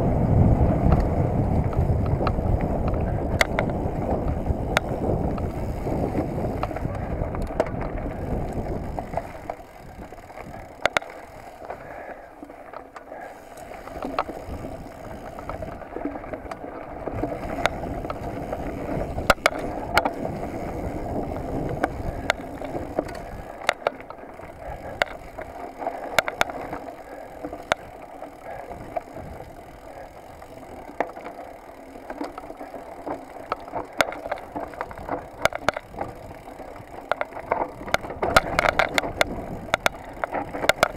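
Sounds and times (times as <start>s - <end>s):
wind buffeting microphone: 0.0s - 12.1s, 13.3s - 40.9s
bike clacking and rattling: 0.0s - 40.9s
bike tyres rolling over dirt: 0.0s - 40.9s.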